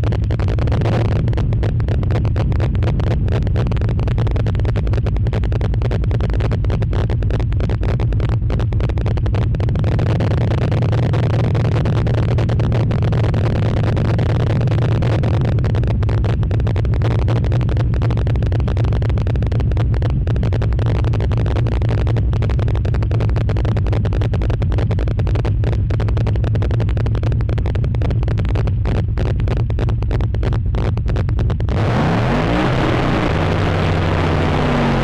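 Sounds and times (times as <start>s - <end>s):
engine droning steadily: 0.0s - 35.0s.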